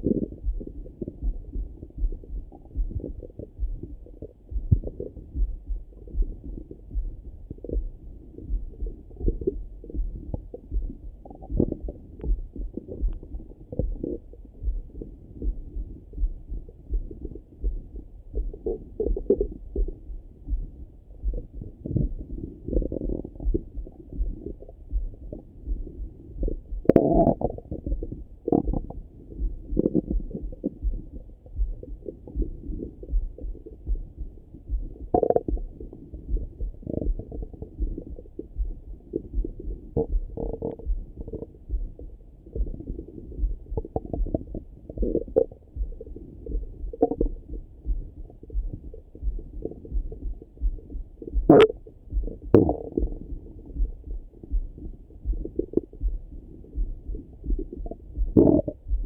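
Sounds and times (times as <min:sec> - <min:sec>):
stomach gurgling through stethoscope: 0:00.0 - 0:05.3, 0:08.5 - 0:16.2, 0:16.8 - 0:20.0, 0:21.3 - 0:31.3, 0:34.9 - 0:59.0
faint regular pulse: 0:00.0 - 0:59.0.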